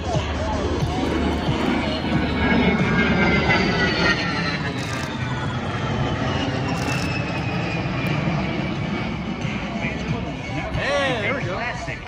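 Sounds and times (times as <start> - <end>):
jet engines whining in flyby: 0.0 - 12.0.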